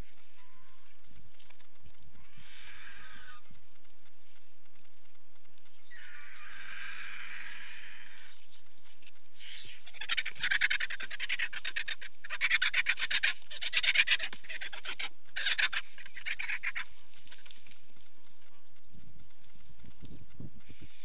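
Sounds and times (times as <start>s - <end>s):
vultures rattling calls: 0.0s - 21.0s.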